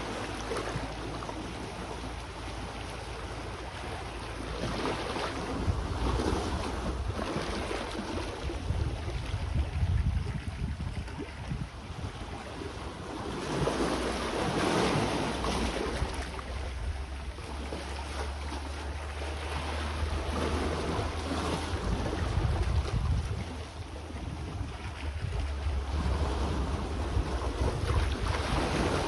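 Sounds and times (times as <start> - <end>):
sea waves washing ashore: 0.0 - 29.0
wind rumbling on microphone: 0.0 - 29.0.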